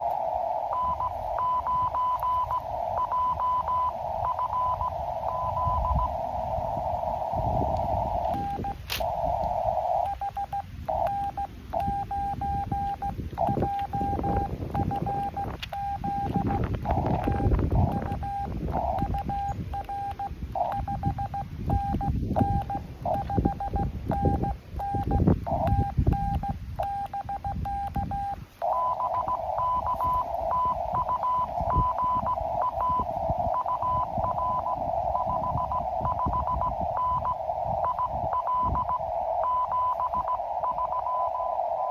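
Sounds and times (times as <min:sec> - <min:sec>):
morse code tone: 0:00.0 - 0:41.9
radio band hiss: 0:00.0 - 0:41.9.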